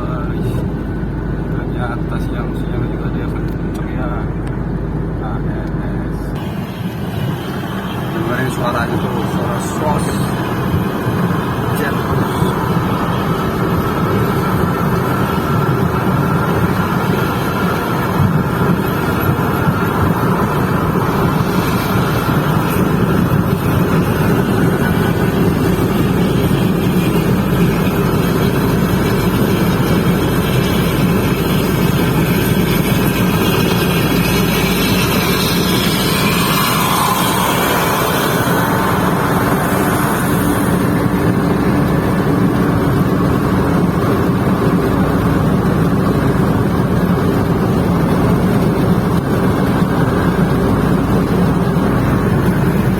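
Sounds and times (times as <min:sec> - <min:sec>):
bus engine drone: 0:00.0 - 0:52.9
wind noise: 0:05.9 - 0:52.9.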